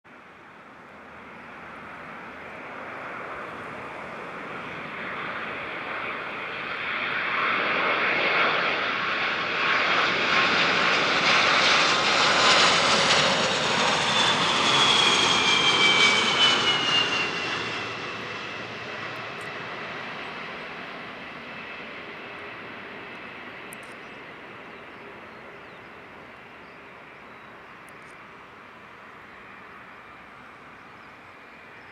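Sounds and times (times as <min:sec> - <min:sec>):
jet engines roaring: 0:00.7 - 0:31.8.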